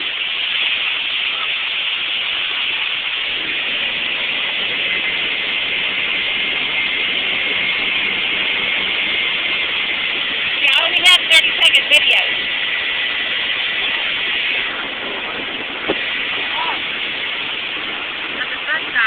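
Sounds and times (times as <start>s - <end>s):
rushing hiss on boat: 0.0s - 19.0s.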